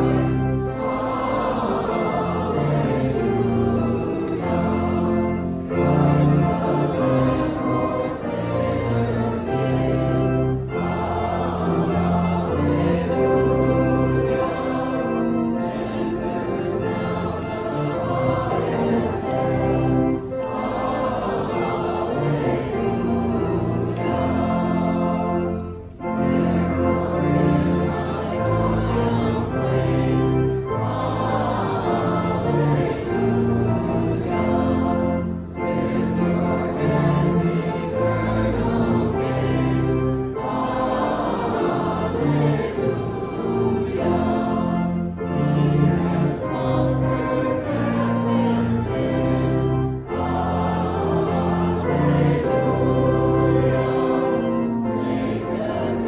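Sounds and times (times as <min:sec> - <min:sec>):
choir singing a hymn: 0:00.0 - 0:56.0
steady low notes: 0:00.0 - 0:56.0.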